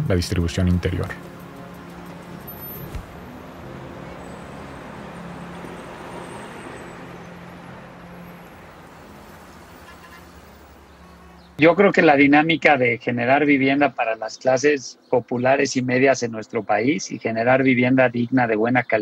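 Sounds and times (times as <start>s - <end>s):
traffic ambient noise: 0.0s - 19.0s.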